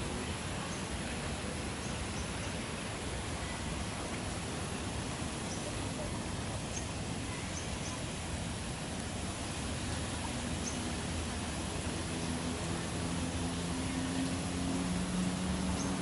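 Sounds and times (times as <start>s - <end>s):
outdoor hiss and low rumble: 0.0s - 16.0s.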